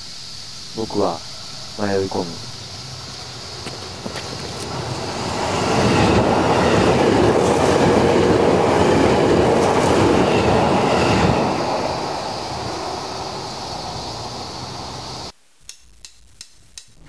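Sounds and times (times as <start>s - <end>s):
train passing at speed: 0.6s - 15.3s.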